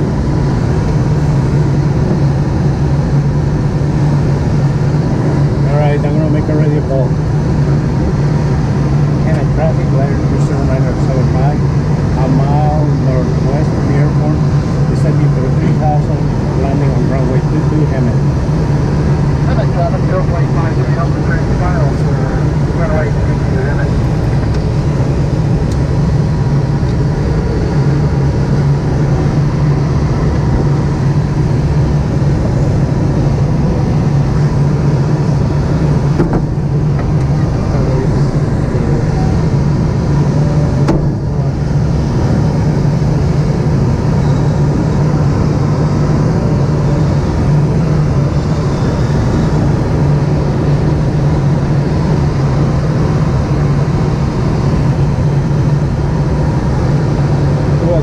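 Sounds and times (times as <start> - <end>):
plane engine and propeller drone: 0.0 - 58.0
rushing airflow: 0.0 - 58.0.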